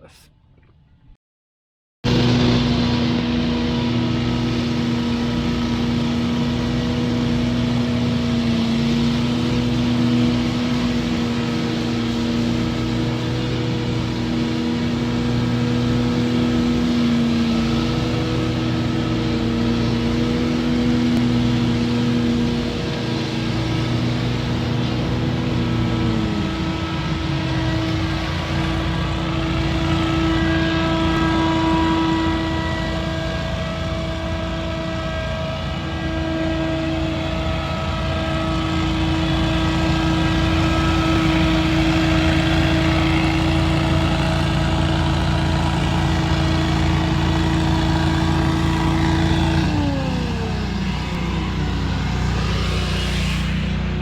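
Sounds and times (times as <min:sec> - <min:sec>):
debris blower engine running: 0:02.1 - 0:54.0.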